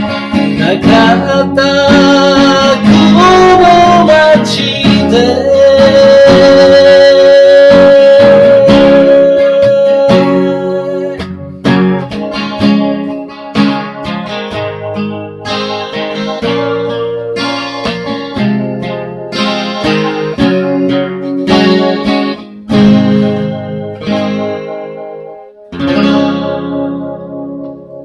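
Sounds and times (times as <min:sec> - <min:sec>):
guitar music: 0:00.0 - 0:28.0.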